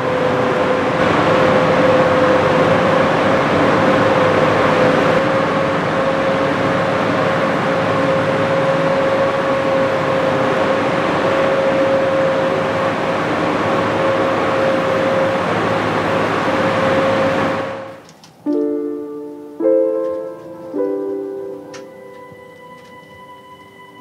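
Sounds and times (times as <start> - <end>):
steady mechanical whine: 0.0 - 24.0.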